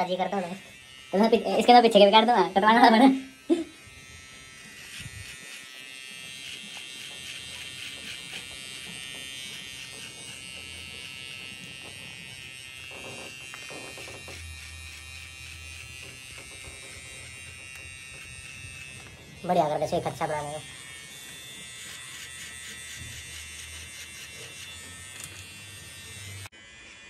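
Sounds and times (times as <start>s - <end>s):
electric hair clipper buzzing: 0.0s - 27.0s.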